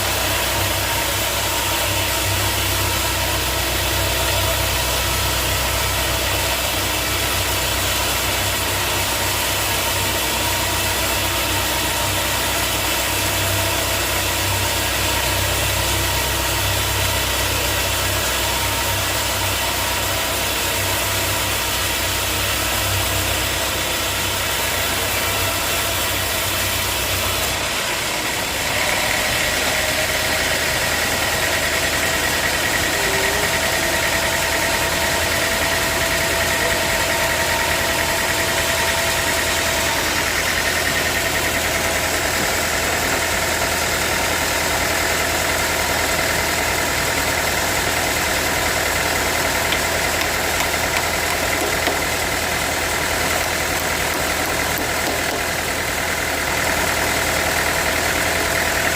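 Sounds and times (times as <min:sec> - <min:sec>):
high machine whine: 0:00.0 - 0:58.9
sawmill machinery humming: 0:00.0 - 0:58.9.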